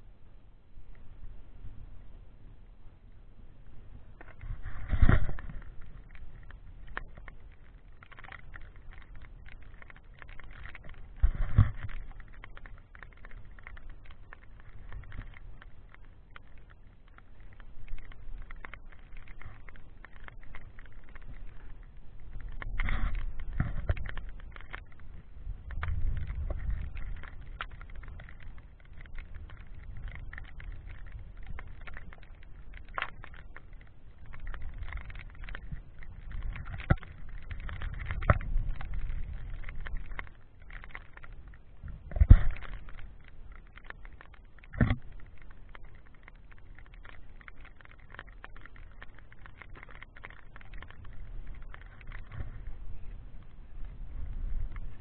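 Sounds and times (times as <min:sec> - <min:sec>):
wind rumble on microphone: 0:00.0 - 0:55.0
small clicks: 0:04.1 - 0:55.0.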